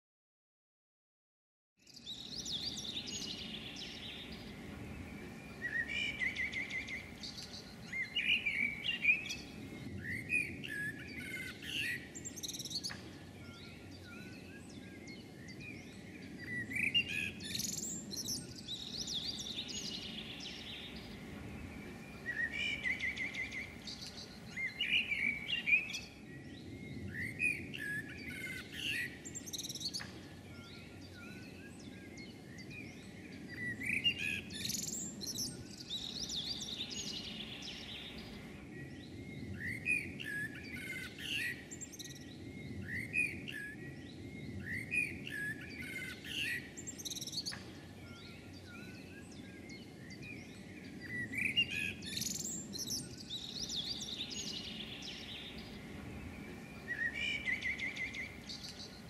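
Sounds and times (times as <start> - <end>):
low background noise: 1.8 - 59.0
songbirds chirping: 1.8 - 59.0.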